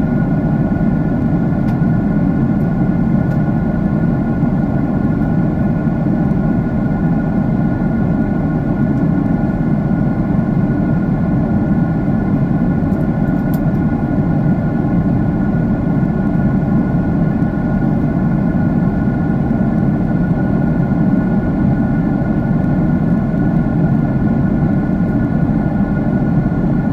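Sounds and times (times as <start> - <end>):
jet engines roaring in cabin: 0.0 - 26.9.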